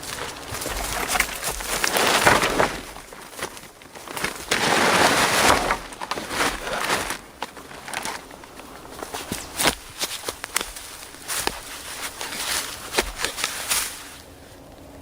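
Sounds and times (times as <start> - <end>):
crunching: 0.0 - 15.0
rustling: 0.0 - 15.0.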